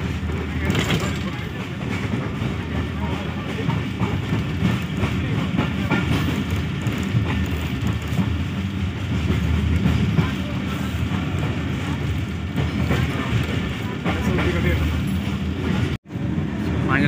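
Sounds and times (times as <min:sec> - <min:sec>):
wheels clacking over rail joints: 0:00.0 - 0:16.0
train coach rumbling: 0:00.0 - 0:17.0.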